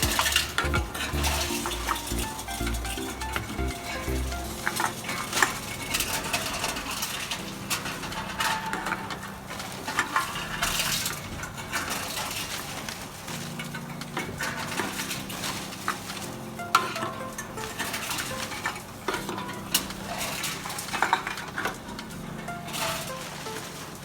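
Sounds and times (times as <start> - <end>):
hard objects clattering: 0.0 - 24.0.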